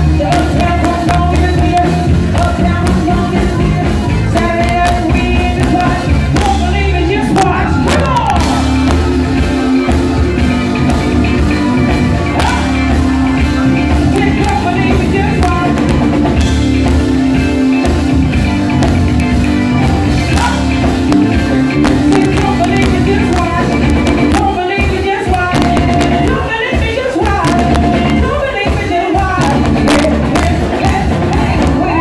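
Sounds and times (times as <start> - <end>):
drum kit: 0.0 - 32.0
electric guitar: 0.0 - 32.0
keyboards: 0.0 - 32.0.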